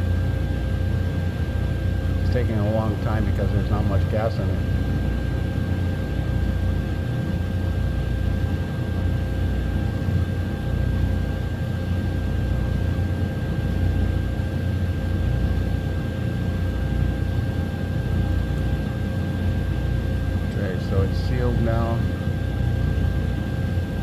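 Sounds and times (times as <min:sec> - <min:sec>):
faint constant whine: 0:00.0 - 0:24.0.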